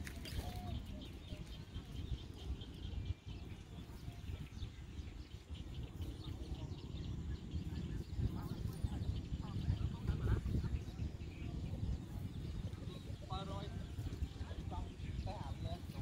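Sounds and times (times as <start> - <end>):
faint birds chirping: 0.0 - 16.0
low uneven rumble: 0.0 - 16.0.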